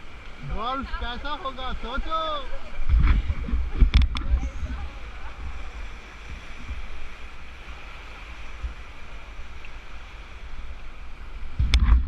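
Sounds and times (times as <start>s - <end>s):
river water rushing: 0.0s - 12.0s
wind on microphone: 0.0s - 12.0s.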